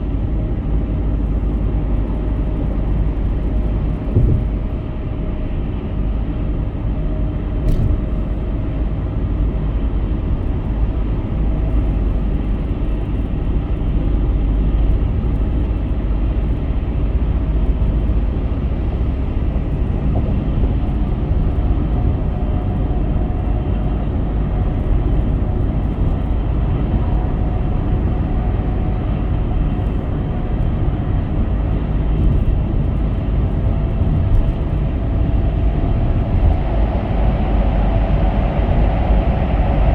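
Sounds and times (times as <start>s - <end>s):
car road noise at highway speed: 0.0s - 39.9s.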